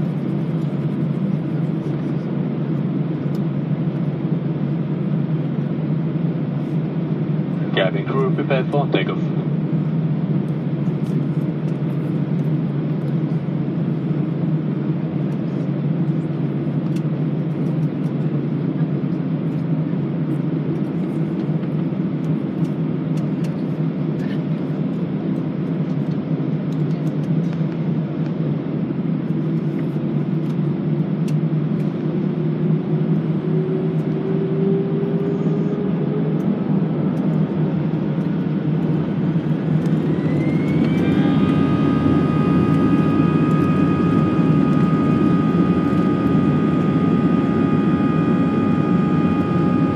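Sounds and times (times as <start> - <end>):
idling jet engines rumble: 0.0 - 49.9.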